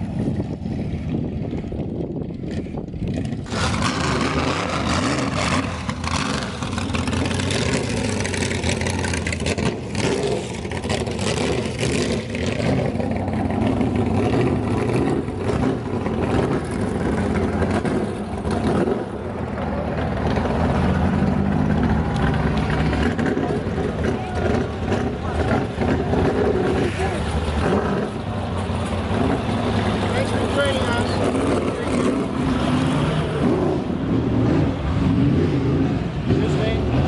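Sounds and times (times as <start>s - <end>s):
car engine running: 0.0s - 37.0s.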